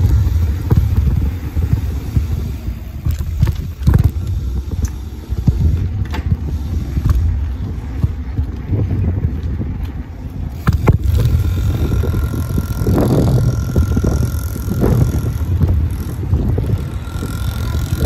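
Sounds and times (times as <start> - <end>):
bicycle rattling knocks: 0.0 - 18.0
wind rumble on microphone: 0.0 - 18.0.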